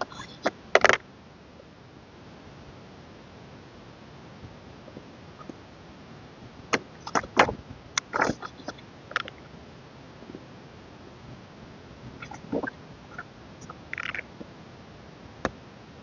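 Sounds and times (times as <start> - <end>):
low steady background hiss: 0.0 - 16.0.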